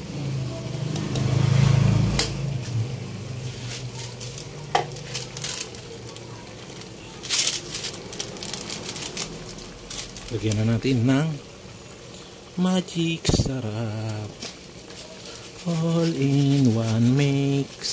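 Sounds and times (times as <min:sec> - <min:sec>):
food simmering and sizzling in a wok: 0:00.0 - 0:17.9.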